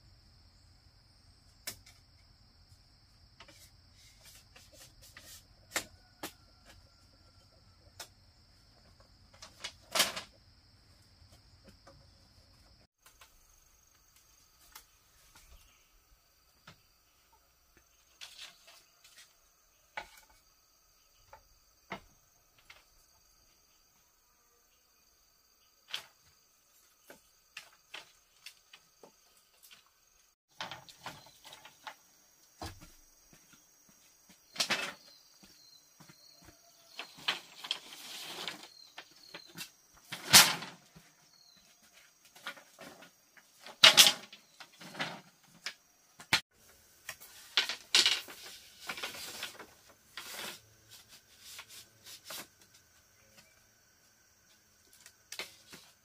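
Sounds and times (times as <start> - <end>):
bamboo knocking and scraping: 1.6 - 2.4, 3.3 - 10.4, 11.1 - 15.9, 16.6 - 23.1, 25.8 - 53.6, 54.4 - 56.0.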